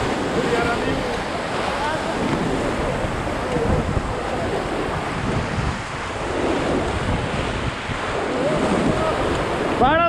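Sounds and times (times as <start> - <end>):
river water rushing: 0.0 - 10.0
wind buffeting microphone: 0.0 - 10.0.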